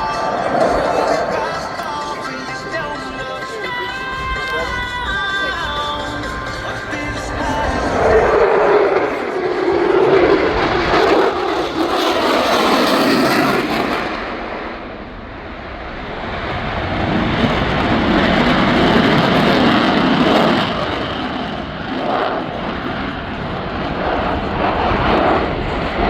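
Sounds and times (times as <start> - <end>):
airplane flying past: 0.0 - 26.0.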